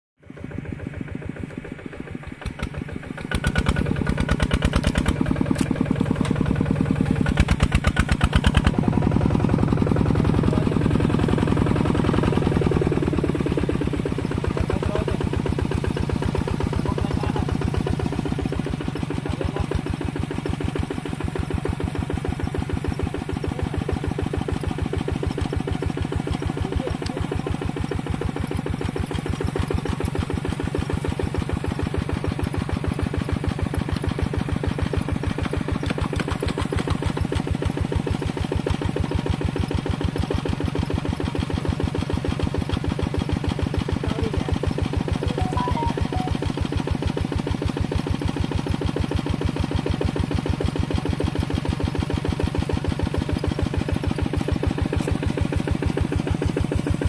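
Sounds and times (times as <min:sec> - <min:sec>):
diesel engine running hard: 0:00.2 - 0:57.0.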